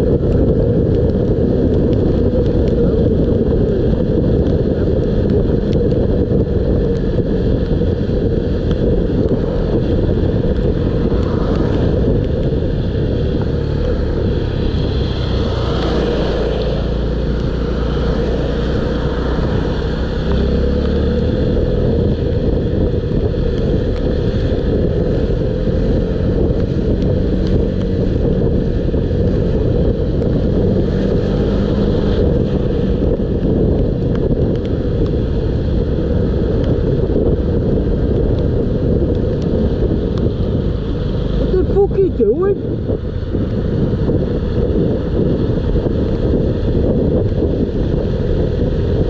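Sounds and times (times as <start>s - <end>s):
motorcycle engine running: 0.0s - 49.0s
wind rush on microphone: 0.0s - 49.0s.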